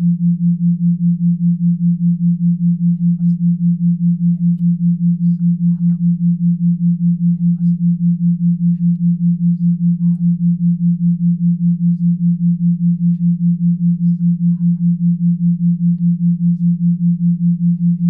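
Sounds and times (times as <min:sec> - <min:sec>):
pulsing low sine tone: 0:00.0 - 0:18.0.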